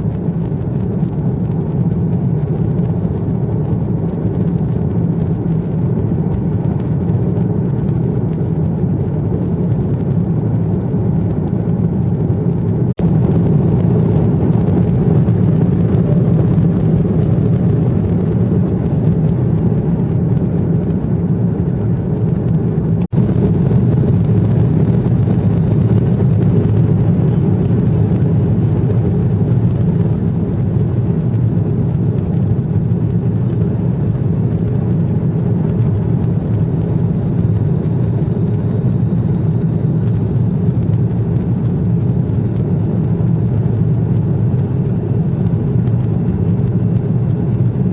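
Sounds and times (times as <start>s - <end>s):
jet airliner cabin rumble: 0.0s - 47.9s.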